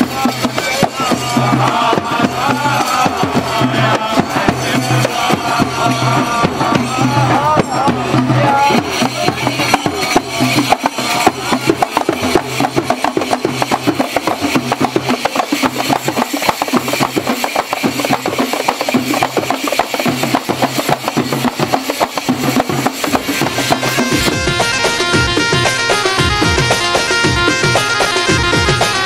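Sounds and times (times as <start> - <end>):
frame drums with jingles: 0.0 - 29.0.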